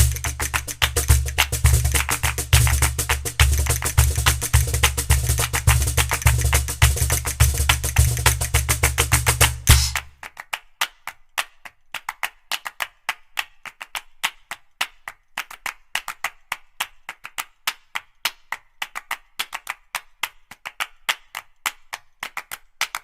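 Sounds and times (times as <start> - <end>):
clap and wood-block percussion: 0.0 - 23.0.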